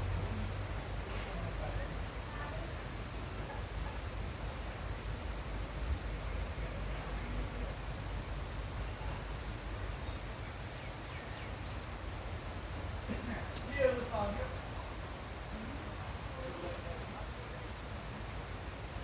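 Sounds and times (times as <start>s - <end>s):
steady low rumble: 0.0s - 16.5s.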